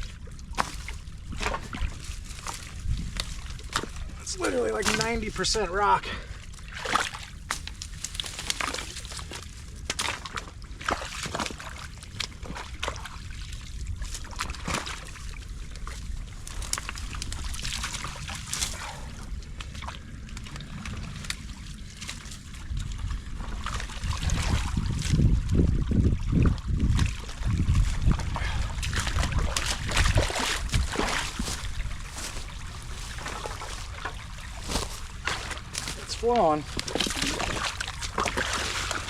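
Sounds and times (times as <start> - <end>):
creek water sloshing and trickling: 0.0 - 39.0
water splashes: 0.0 - 39.0.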